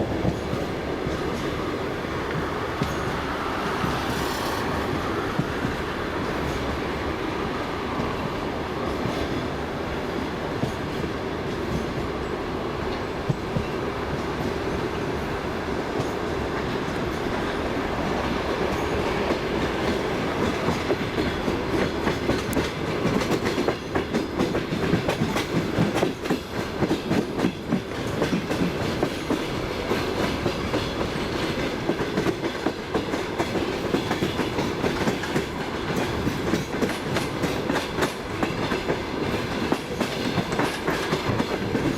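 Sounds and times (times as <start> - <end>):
train wheels clattering: 0.0 - 7.0, 7.6 - 41.9
train running rumble: 0.0 - 41.9.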